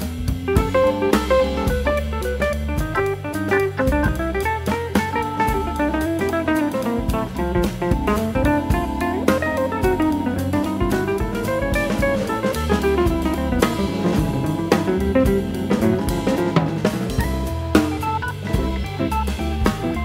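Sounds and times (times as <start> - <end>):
background music melody: 0.0 - 20.0
drum kit beat: 0.0 - 20.0.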